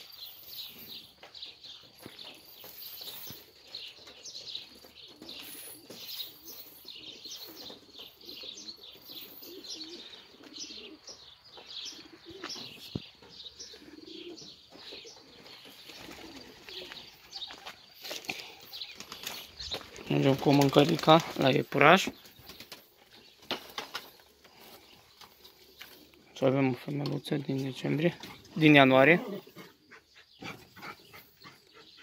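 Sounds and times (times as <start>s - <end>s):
pigeons cooing: 0.0s - 32.0s
small birds chirping: 0.0s - 32.0s.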